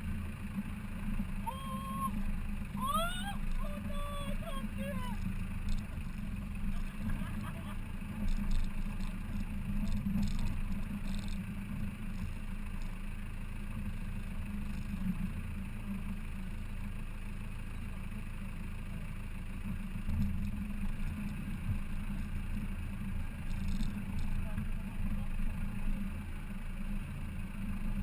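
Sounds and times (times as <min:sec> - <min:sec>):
car engine low drone: 0:00.0 - 0:28.0.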